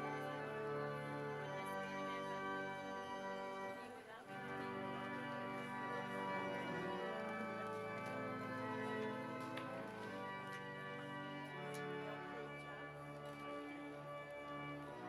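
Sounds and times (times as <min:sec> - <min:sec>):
organ playing slow chords: 0:00.0 - 0:15.0.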